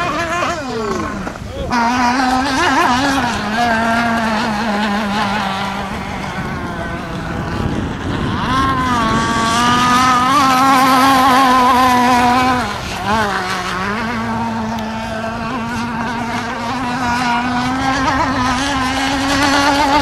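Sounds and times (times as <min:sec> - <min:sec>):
model boat engine high buzz: 0:00.0 - 0:20.0.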